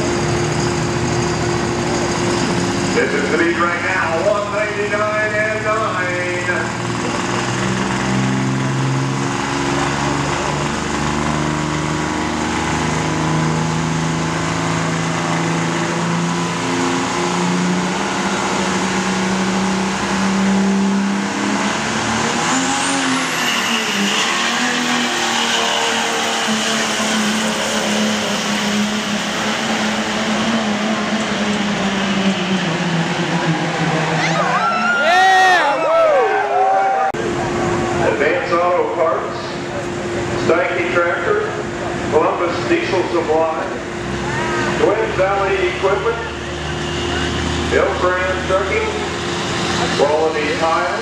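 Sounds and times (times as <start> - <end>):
diesel truck engine revving: 0.0 - 51.0.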